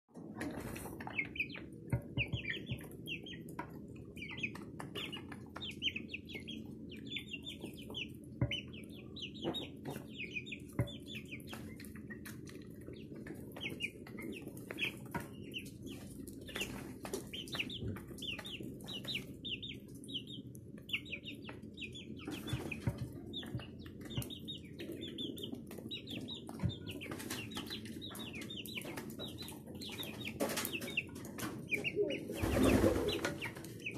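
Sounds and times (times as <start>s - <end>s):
chicks peeping: 0.1s - 33.9s.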